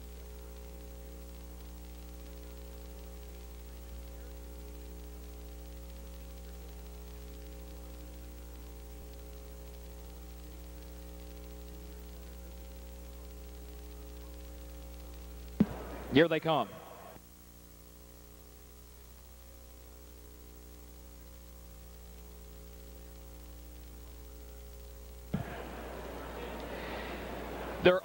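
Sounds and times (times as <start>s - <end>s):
electrical mains hum: 0.0s - 28.0s
faint static hiss: 0.0s - 28.0s.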